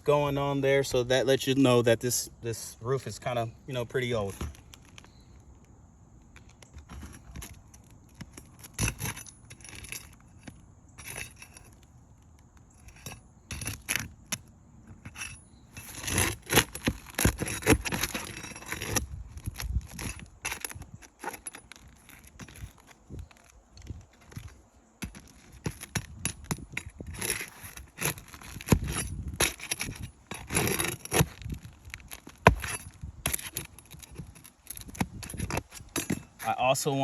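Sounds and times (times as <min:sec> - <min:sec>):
nails being pulled out: 0:06.4 - 0:36.5
metal tool scraping shingles: 0:06.6 - 0:37.0.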